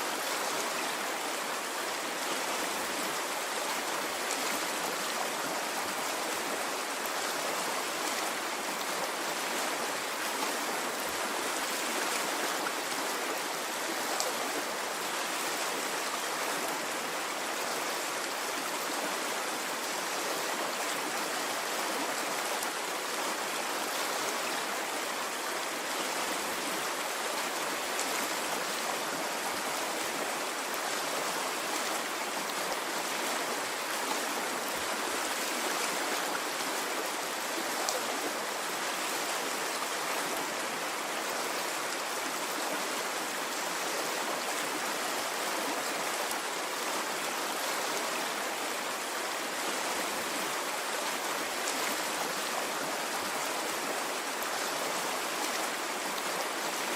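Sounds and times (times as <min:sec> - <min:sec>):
stream of running water: 0:00.0 - 0:56.9.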